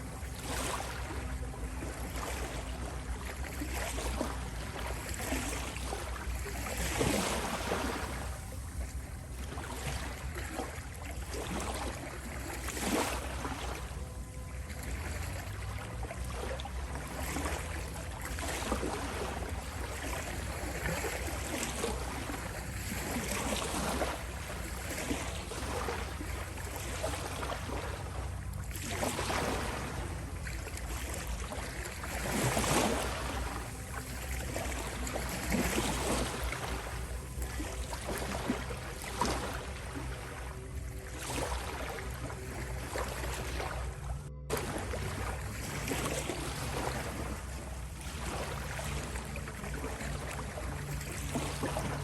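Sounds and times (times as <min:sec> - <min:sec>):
faint steady tone: 0:00.0 - 0:52.0
ocean waves surging and washing: 0:00.0 - 0:52.0.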